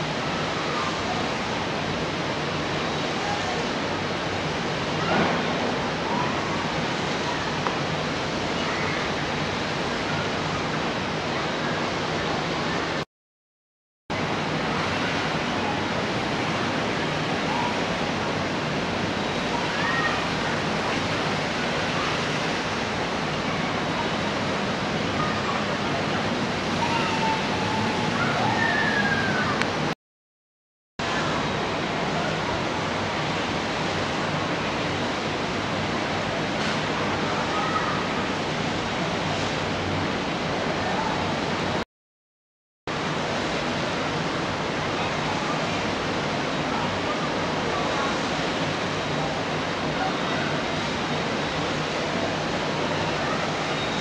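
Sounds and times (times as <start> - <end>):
rushing outdoor background noise: 0.0 - 13.1, 14.1 - 30.0, 31.0 - 41.8, 42.9 - 54.0.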